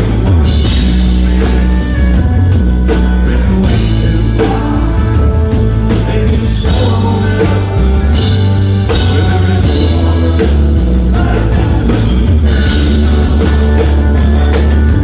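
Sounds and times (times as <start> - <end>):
live country band playing: 0.0 - 15.0.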